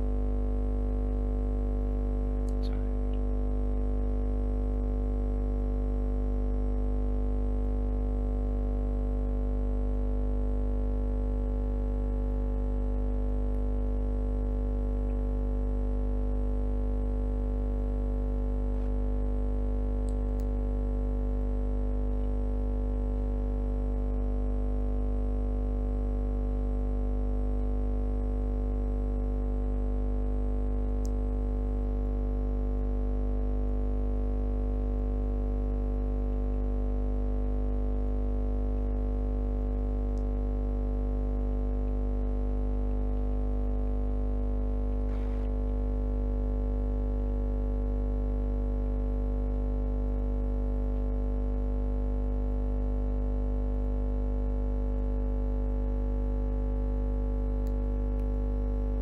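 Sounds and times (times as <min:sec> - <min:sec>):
deep steady hum of held tones: 0:00.0 - 0:59.0.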